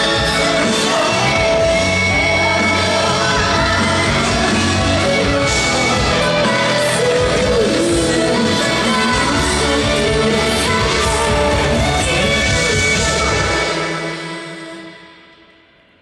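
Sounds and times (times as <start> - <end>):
woman singing: 0.0 - 15.2.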